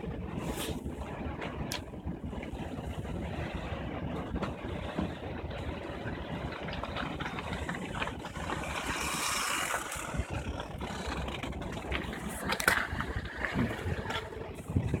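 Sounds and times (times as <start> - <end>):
vehicle noise: 0.0 - 15.0.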